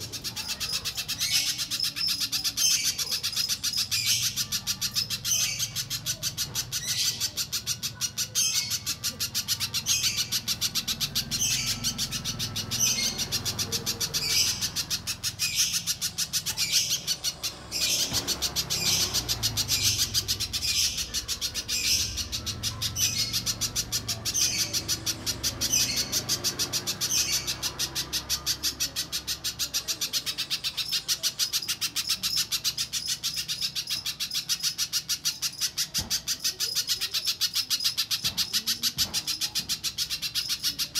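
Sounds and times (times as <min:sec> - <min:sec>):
bird rapid chattering song: 0:00.0 - 0:40.9.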